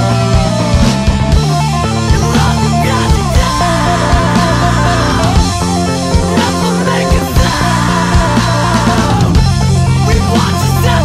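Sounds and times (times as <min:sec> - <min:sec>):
rock song with guitar bass drums: 0:00.0 - 0:11.0.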